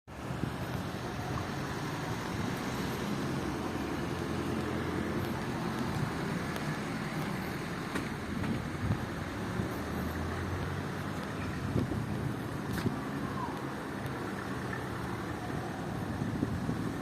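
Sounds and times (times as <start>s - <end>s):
traffic rumble: 0.1s - 17.0s.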